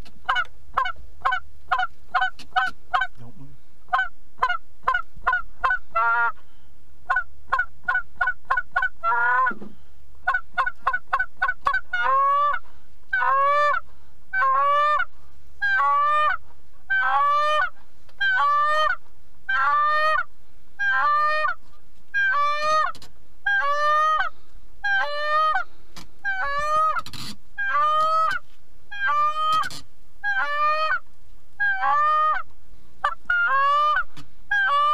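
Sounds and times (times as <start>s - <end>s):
goose call clucks and honks: 0.3s - 3.2s, 3.9s - 6.4s, 7.1s - 9.6s, 10.3s - 13.8s, 14.4s - 31.0s, 31.6s - 34.9s.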